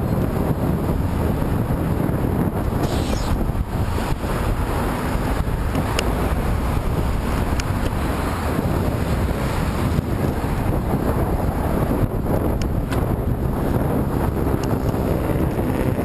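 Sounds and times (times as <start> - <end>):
wind buffeting a microphone: 0.0 - 16.0.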